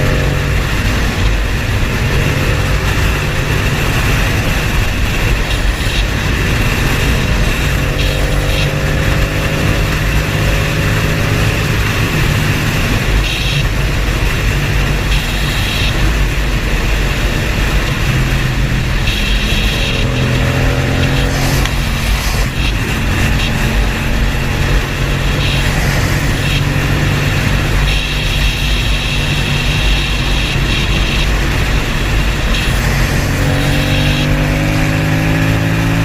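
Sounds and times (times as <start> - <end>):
road and wind noise: 0.0 - 36.0
vehicle engine running: 0.0 - 36.0.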